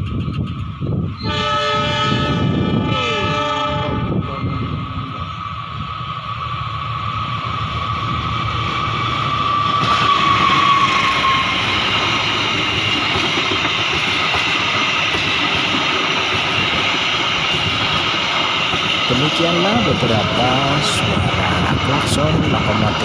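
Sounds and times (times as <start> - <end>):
train rolling on rails: 0.0 - 23.0.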